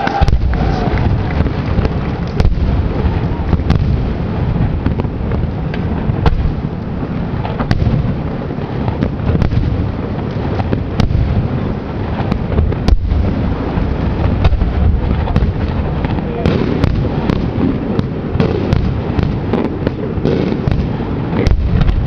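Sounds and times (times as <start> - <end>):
deep rumble of firework booms: 0.0 - 22.0
sharp firework cracks: 0.0 - 22.0.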